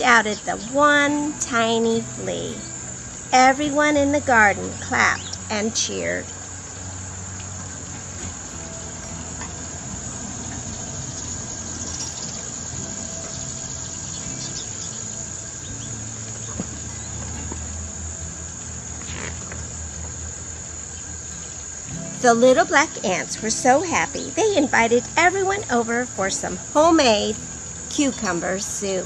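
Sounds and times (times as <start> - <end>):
insects chirping: 0.0 - 29.0
low steady rumble: 0.0 - 29.0.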